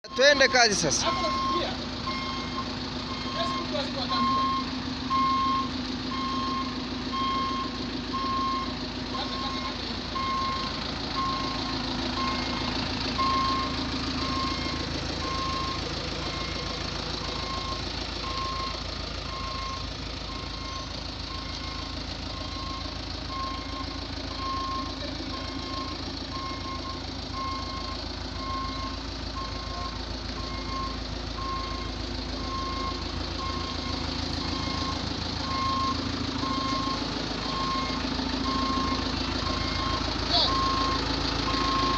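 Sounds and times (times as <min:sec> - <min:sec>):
bulldozer diesel engine running: 0:00.0 - 0:41.9
reversing alarm beeping: 0:00.0 - 0:41.9.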